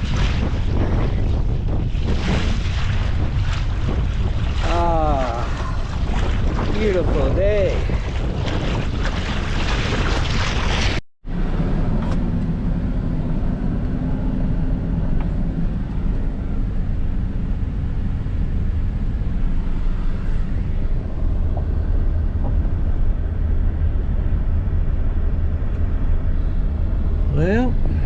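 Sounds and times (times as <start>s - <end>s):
low engine hum: 0.0s - 28.0s
vehicle low rumble: 0.0s - 28.0s.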